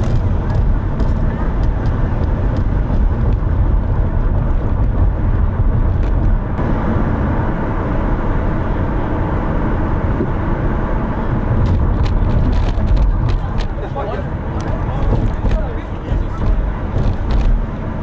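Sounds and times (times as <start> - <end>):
road noise: 0.0 - 18.0
vehicle rumbling while driving: 0.0 - 18.0.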